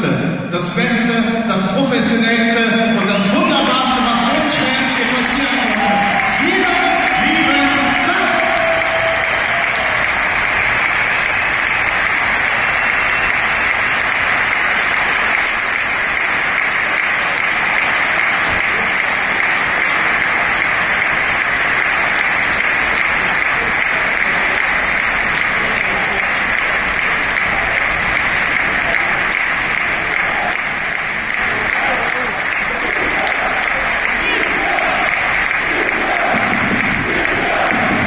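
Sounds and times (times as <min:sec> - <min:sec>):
crowd applauding: 0:02.9 - 0:38.0.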